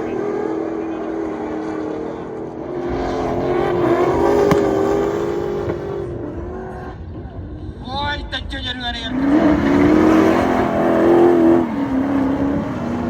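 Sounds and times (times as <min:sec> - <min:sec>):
car engine at high revs: 0:00.0 - 0:07.6, 0:09.0 - 0:13.0.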